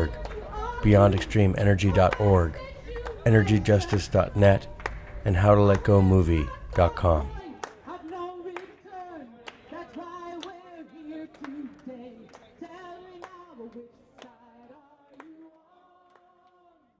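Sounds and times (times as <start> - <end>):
people clapping: 0.0 - 16.9
voices singing a protest song: 0.0 - 16.9.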